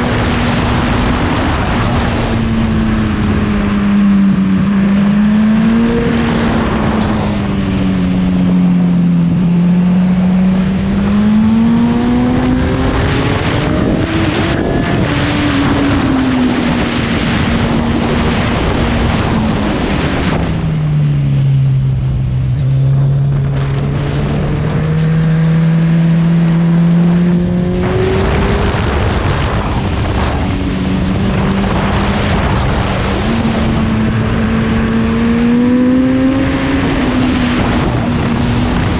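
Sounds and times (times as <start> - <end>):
heavy wind rush: 0.0 - 38.9
motorcycle engine revving: 0.0 - 38.9.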